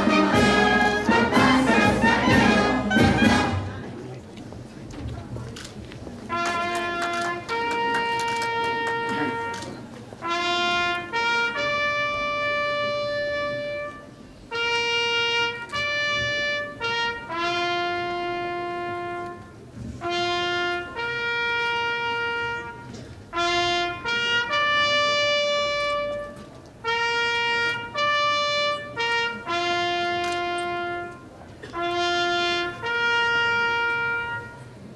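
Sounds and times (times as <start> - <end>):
solo trumpet call: 0.0 - 3.7, 6.3 - 34.9.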